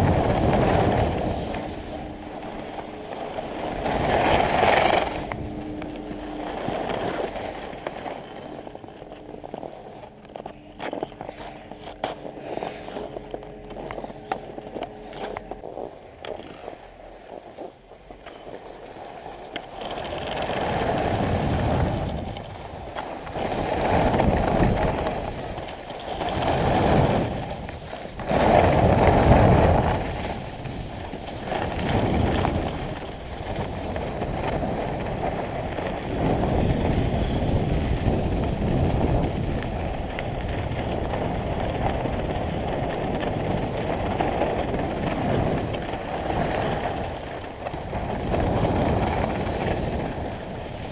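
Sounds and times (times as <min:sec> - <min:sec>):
wind on microphone: 0:00.0 - 0:17.2, 0:19.3 - 0:50.9
skis scraping on snow: 0:00.0 - 0:50.9.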